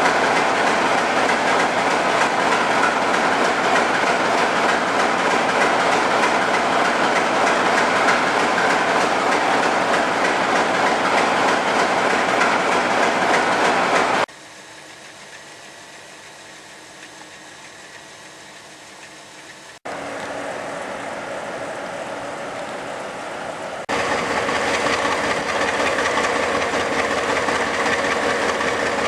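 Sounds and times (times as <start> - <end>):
diesel locomotive running: 0.0 - 29.0.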